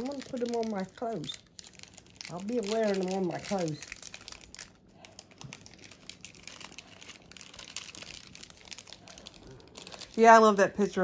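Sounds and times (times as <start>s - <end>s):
paper wrappers crinkling: 0.0s - 11.0s.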